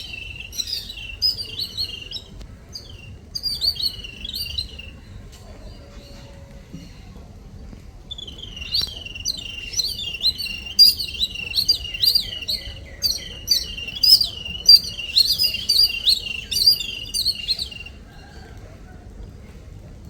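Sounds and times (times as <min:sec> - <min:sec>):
birds chirping chatter: 0:00.0 - 0:19.8.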